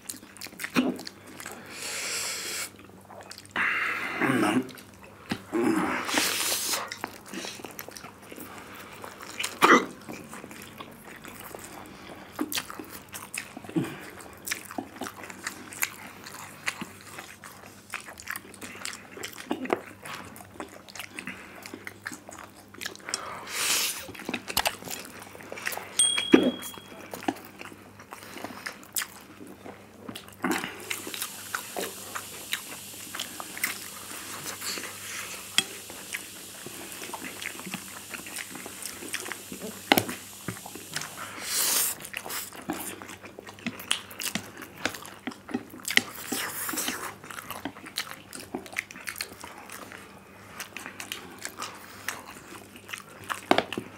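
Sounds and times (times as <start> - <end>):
slurping and chewing noodles: 0.0 - 26.0, 26.9 - 53.9.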